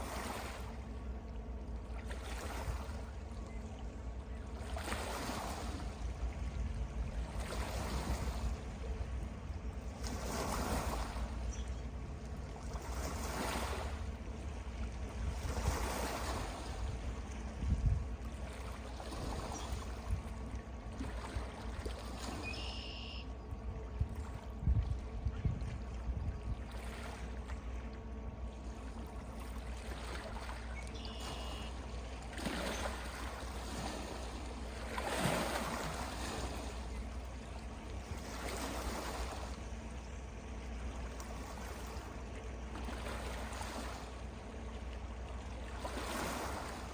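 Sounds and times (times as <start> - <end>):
low steady rumble: 0.0 - 46.9
water swishing in surges: 0.0 - 46.9.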